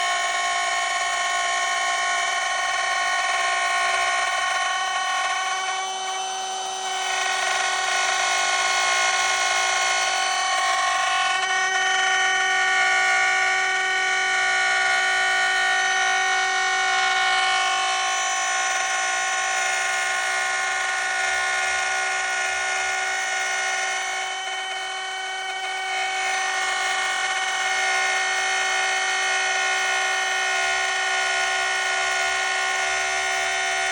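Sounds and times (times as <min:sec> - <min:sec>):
electric wood router whining: 0:00.0 - 0:33.9.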